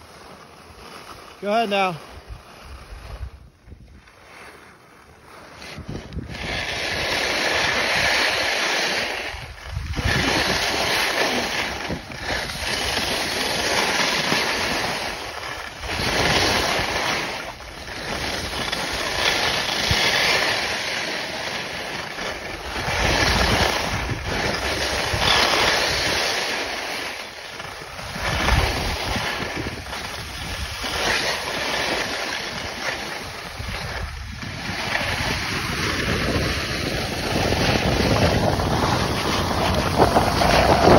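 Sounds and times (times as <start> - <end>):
skis scraping over snow: 0.0 - 40.9
wind rushing over microphone: 1.5 - 4.3, 5.5 - 21.6, 22.3 - 40.9.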